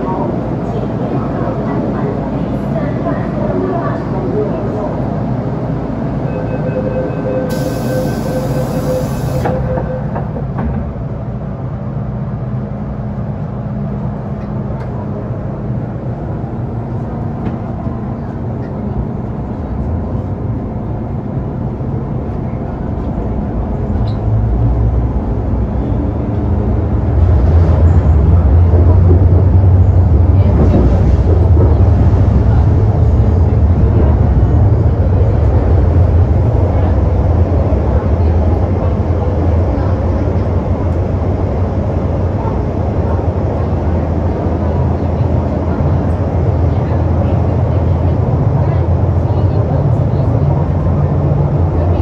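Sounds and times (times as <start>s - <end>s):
low train hum: 0.0s - 52.0s
train interior rumble: 0.0s - 52.0s.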